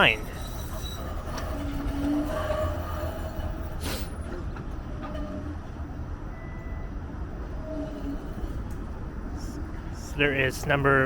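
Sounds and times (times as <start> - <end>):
wheels squealing: 0.0 - 6.8, 7.4 - 10.3
streetcar rumbling on track: 0.0 - 11.0.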